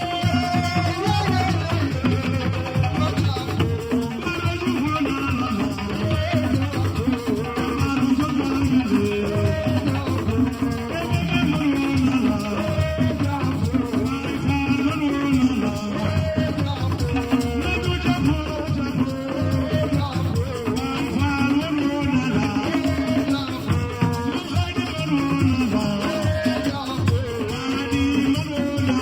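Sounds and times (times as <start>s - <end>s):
drums and percussion: 0.0s - 29.0s
person singing: 0.0s - 29.0s.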